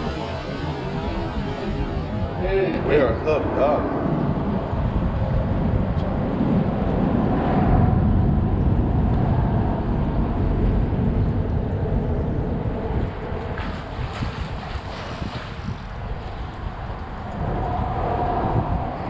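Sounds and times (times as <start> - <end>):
wind noise on microphone: 0.0 - 19.0.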